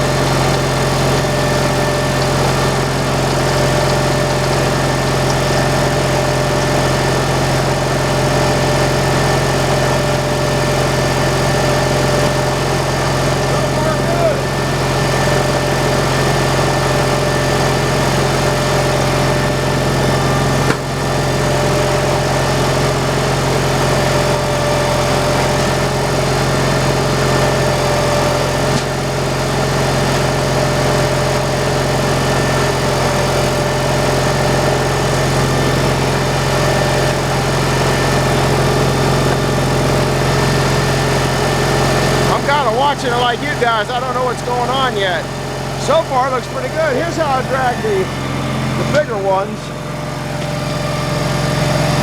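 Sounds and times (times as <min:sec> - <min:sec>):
saw engine running: 0:00.0 - 0:52.0.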